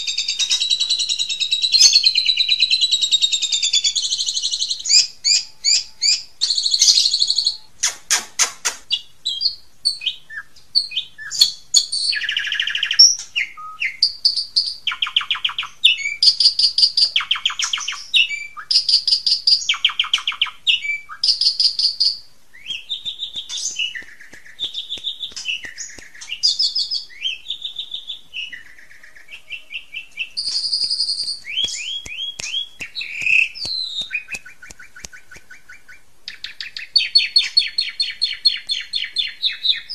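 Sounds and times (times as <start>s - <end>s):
songbird singing trills: 0.0s - 7.7s, 8.9s - 39.9s.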